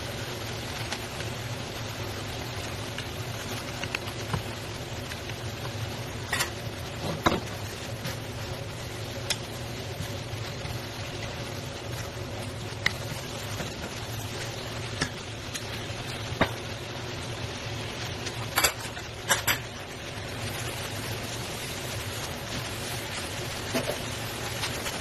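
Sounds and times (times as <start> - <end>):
food sizzling in a wok: 0.0 - 25.0.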